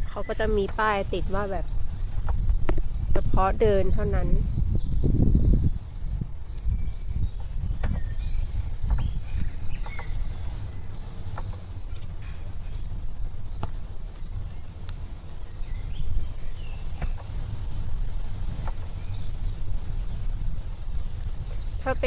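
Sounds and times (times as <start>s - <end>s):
bicycle tyres and wind rumbling: 0.0s - 22.0s
small birds chirping: 0.0s - 22.0s.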